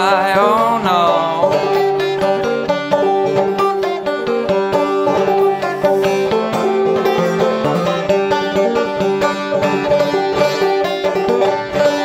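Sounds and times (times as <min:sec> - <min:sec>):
banjo picking fast notes: 0:00.0 - 0:12.0.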